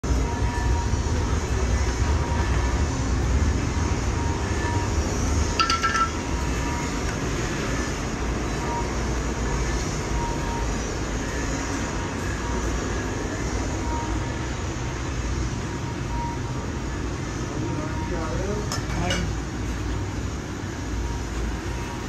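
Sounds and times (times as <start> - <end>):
workshop machinery roar: 0.0 - 22.0.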